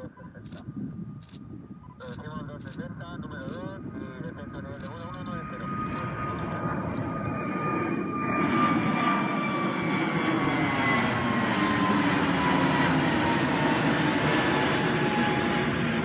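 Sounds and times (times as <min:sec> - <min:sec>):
jet aircraft engines roaring: 0:00.0 - 0:16.0.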